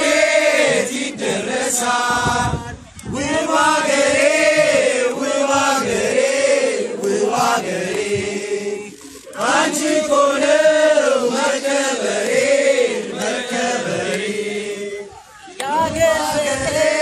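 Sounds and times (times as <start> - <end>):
group of people chanting a song: 0.0 - 17.0.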